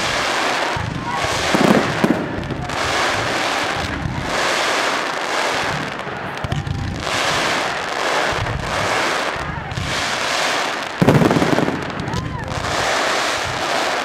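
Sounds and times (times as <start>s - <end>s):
fireworks booms: 0.0s - 14.0s
fireworks crackling and hissing: 0.0s - 14.0s.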